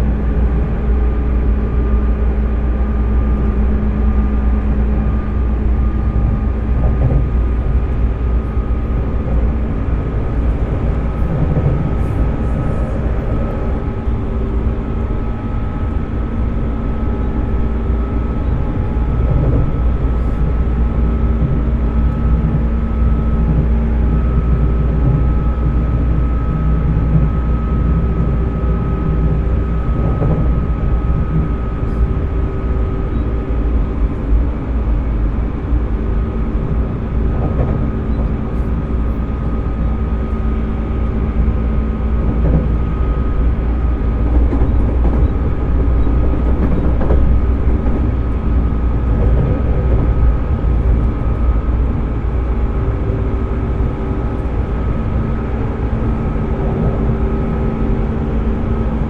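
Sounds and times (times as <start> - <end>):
electric motor and fan whine: 0.0 - 59.0
train wheels rumbling on rail: 0.0 - 59.0.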